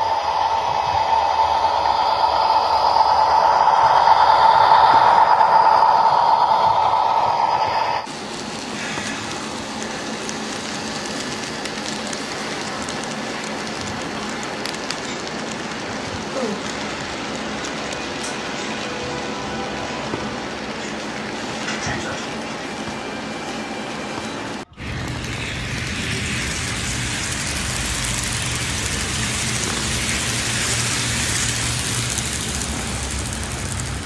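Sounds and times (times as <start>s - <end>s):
model train motor whine: 0.0s - 19.7s, 24.8s - 34.0s
train wheels rolling on rail: 0.0s - 34.0s.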